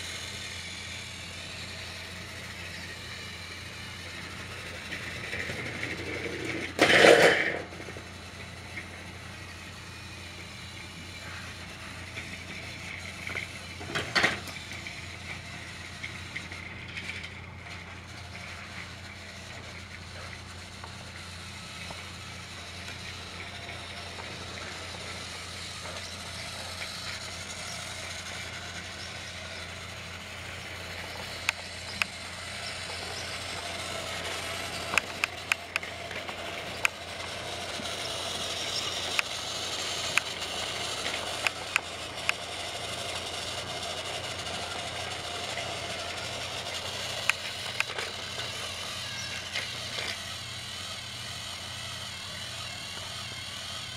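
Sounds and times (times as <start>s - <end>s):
toy train motors whirring: 0.0s - 53.9s
sharp clicks and clacks: 2.5s - 9.0s, 11.3s - 51.7s.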